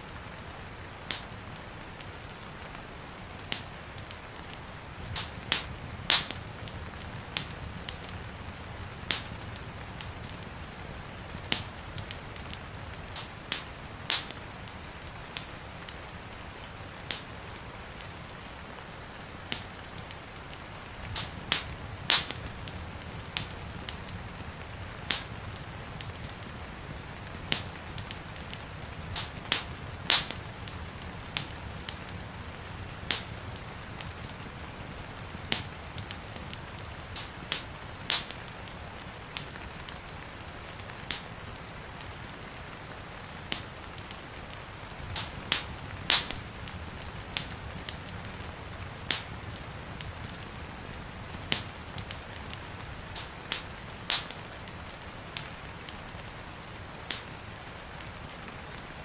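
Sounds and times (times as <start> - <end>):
gentle rain hissing: 0.0 - 59.0
wood fire crackling: 0.0 - 59.0
fire popping: 0.1 - 59.0.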